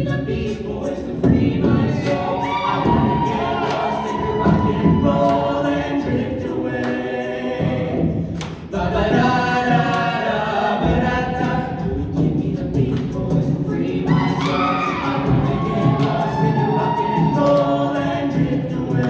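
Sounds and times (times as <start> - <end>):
vocal ensemble singing a cappella: 0.0 - 19.0.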